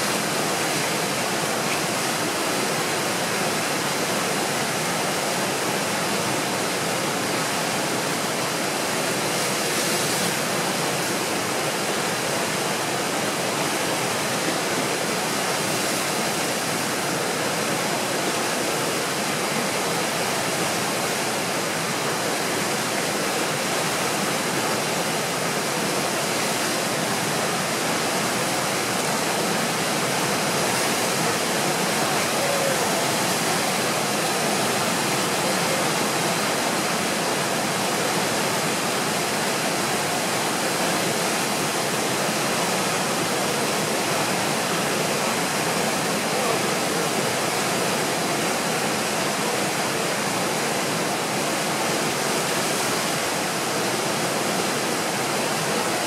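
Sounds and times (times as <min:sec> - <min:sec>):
rapids rushing over rocks: 0:00.0 - 0:56.0.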